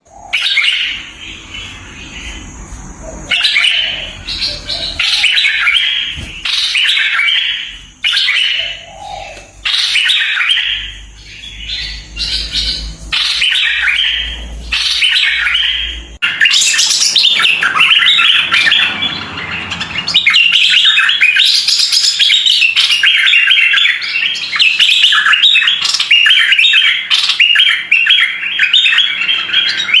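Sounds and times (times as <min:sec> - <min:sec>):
bulbul singing: 0:00.0 - 0:30.0.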